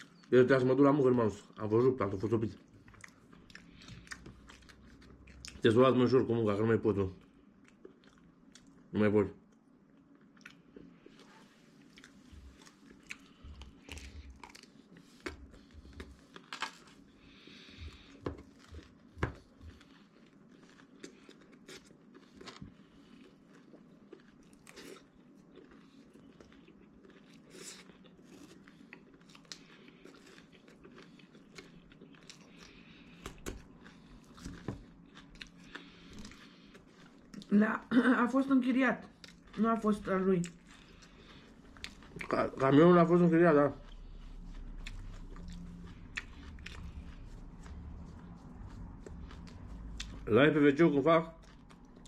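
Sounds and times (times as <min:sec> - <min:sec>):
person chewing crunchy food: 0:02.4 - 0:05.9, 0:07.6 - 0:08.9, 0:09.5 - 0:37.6, 0:39.0 - 0:52.0.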